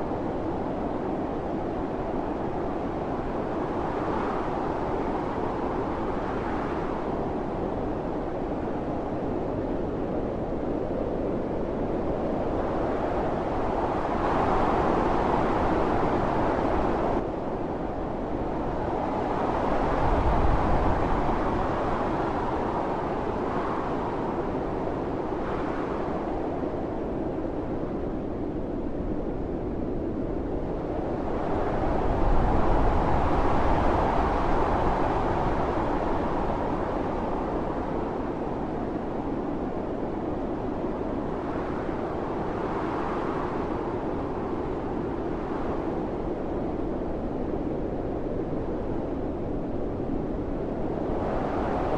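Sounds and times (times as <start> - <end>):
gusting blizzard wind: 0.0 - 51.9.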